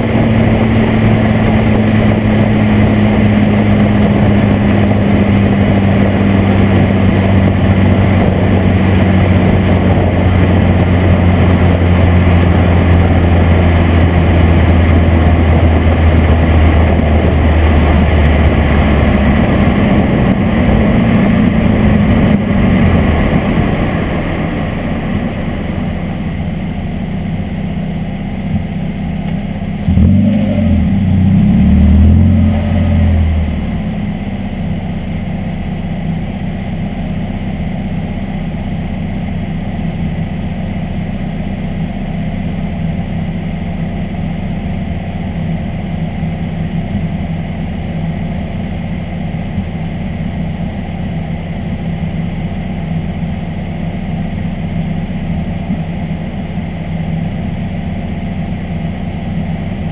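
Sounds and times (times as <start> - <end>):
car engine slowing and idling: 0.0 - 59.9.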